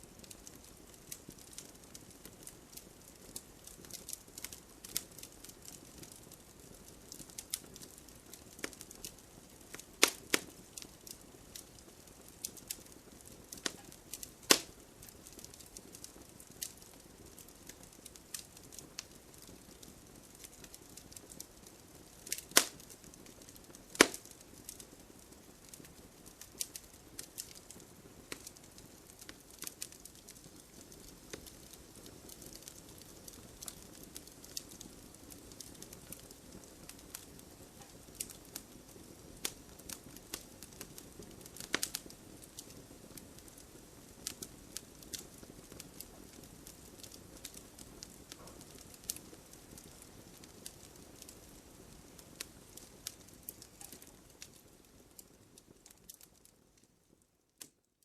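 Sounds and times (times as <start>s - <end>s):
wood fire crackling: 0.0s - 58.0s
loud fire pops: 0.2s - 56.4s.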